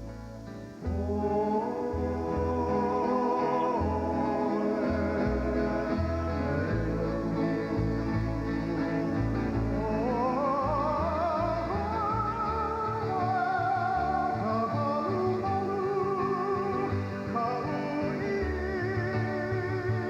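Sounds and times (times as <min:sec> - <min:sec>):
bass line: 0:00.0 - 0:20.0
plucked guitar chords: 0:00.0 - 0:20.0
man singing with vibrato: 0:00.8 - 0:20.0.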